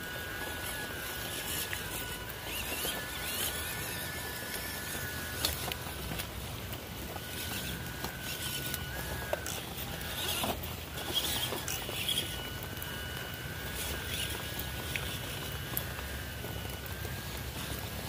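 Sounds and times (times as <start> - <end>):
electric motor whine: 0.0 - 18.0
tyres crackling over stones: 0.0 - 18.0.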